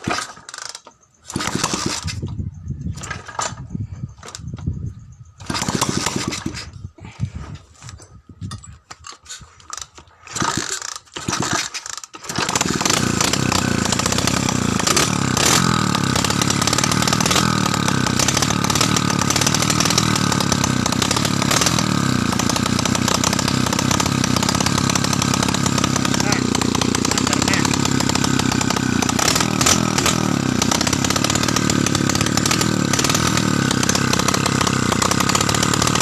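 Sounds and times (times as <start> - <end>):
motorcycle engine sputtering and idling: 0.0 - 9.0, 9.6 - 36.0.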